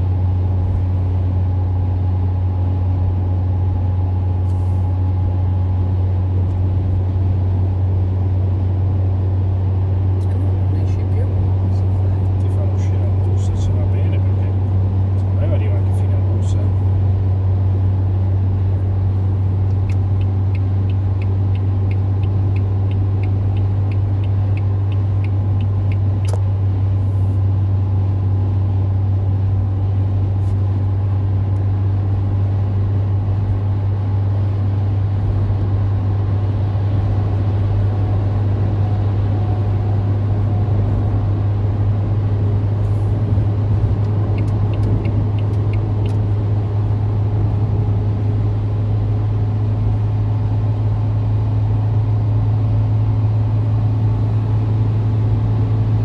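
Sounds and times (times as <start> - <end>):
car cabin drone at speed: 0.0 - 56.0.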